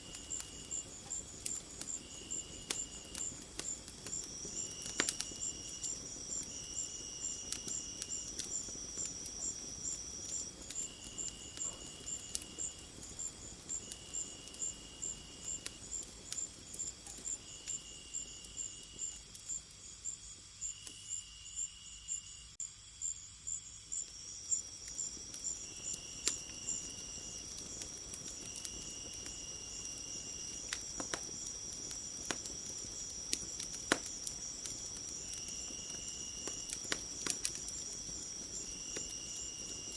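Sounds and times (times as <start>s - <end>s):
high cricket chirp: 0.0s - 39.9s
steady high insect trill: 0.0s - 39.9s.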